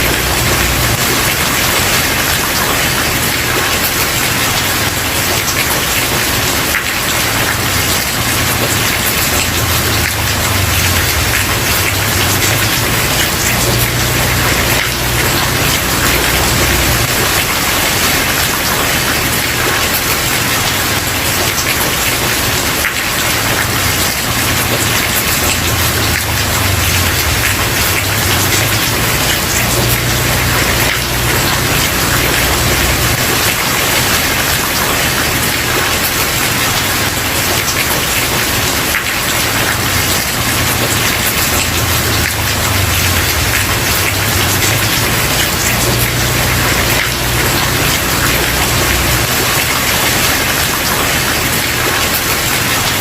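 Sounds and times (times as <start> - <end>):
rain on a wooden porch: 0.0 - 53.0.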